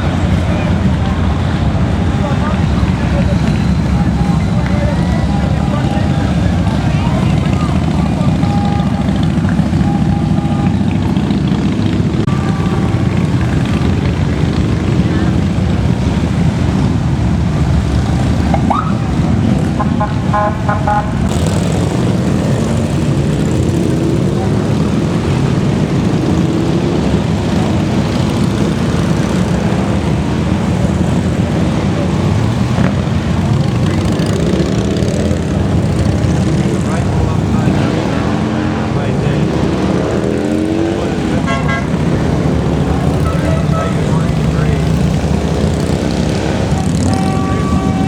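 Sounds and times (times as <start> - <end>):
motorcycles riding past: 0.0 - 48.0.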